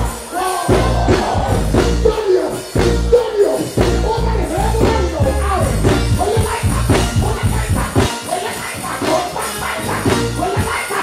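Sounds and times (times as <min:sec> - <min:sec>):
loud reggae music with heavy bass: 0:00.0 - 0:11.0.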